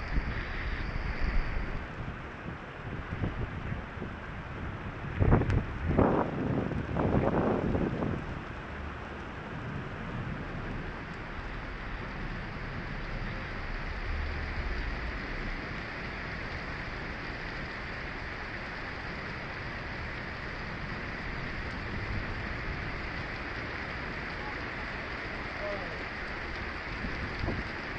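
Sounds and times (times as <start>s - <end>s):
heavy rain on pavement: 0.0s - 27.9s
low thunder rumble: 0.0s - 27.9s.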